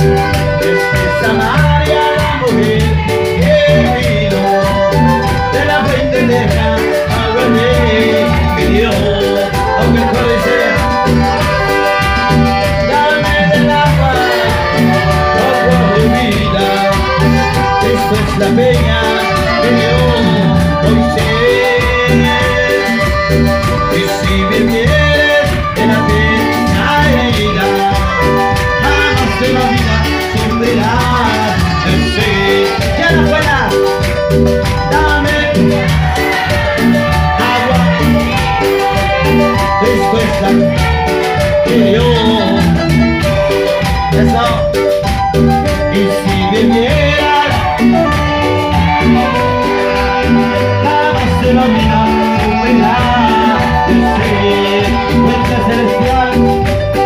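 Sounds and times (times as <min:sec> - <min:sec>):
live band playing latin music: 0:00.0 - 0:57.0
man singing into microphone: 0:00.0 - 0:57.0.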